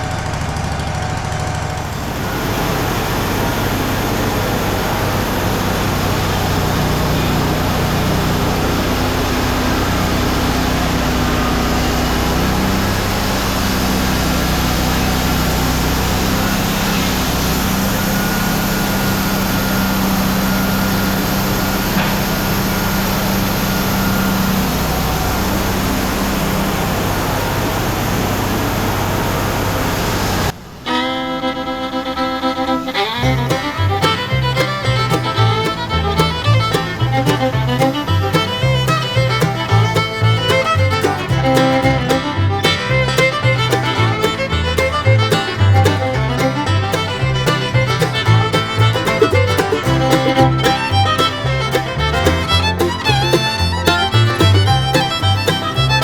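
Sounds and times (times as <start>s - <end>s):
band sawmill engine running: 0.0s - 30.9s, 31.6s - 56.0s.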